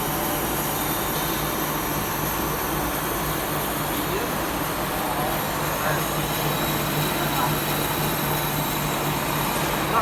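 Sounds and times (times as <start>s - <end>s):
lathe mechanical hum: 0.0s - 10.0s.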